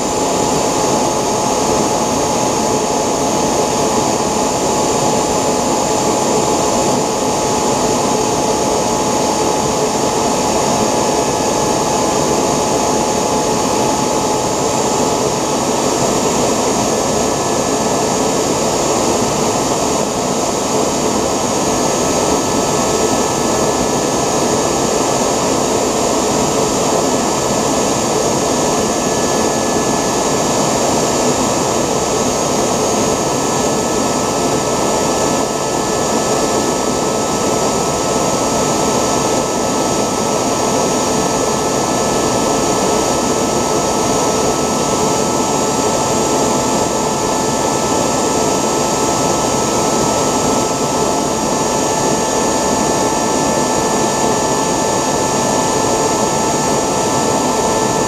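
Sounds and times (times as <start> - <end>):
model jet engine running: 0.0 - 58.0.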